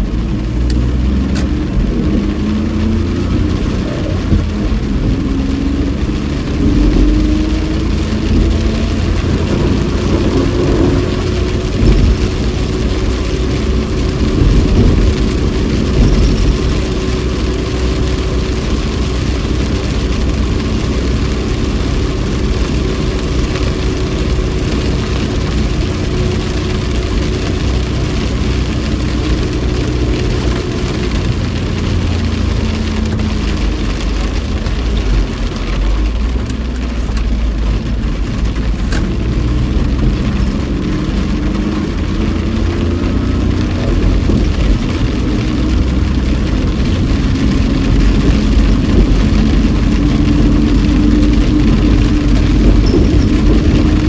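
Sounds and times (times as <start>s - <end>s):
car engine: 0.0s - 54.0s
hiss of rain and spray: 0.0s - 54.0s
tyre noise on wet road: 0.0s - 54.0s.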